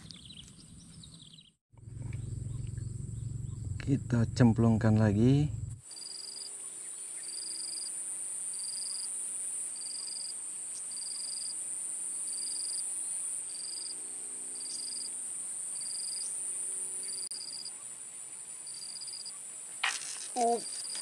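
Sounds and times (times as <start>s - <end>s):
insect chirps: 0.1s - 21.0s
insects buzzing: 1.8s - 21.0s.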